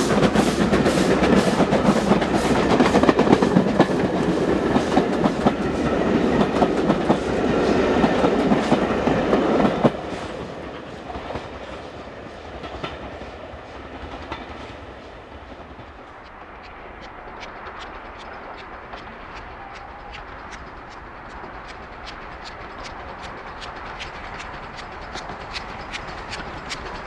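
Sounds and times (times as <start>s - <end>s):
train wheels clattering over rail joints: 0.0s - 11.9s, 12.5s - 27.0s
steam locomotive exhaust: 0.0s - 14.1s, 16.0s - 27.0s.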